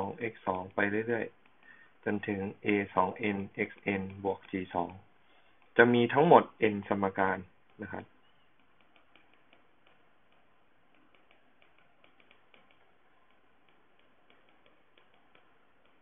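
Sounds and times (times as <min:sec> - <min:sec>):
stylus tapping on glass screen: 0:01.0 - 0:16.0.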